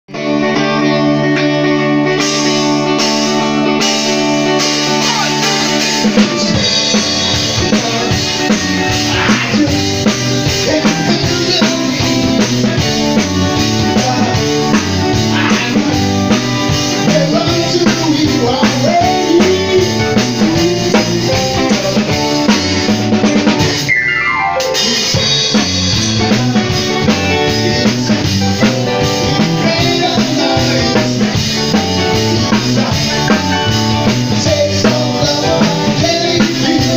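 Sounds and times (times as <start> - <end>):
electric guitar: 0.1 - 36.9
drum kit with kick and snare: 2.2 - 36.9.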